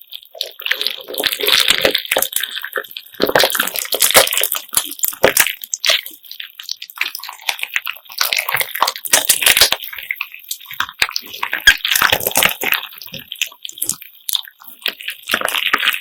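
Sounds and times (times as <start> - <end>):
wet slime squishing: 0.0 - 16.0.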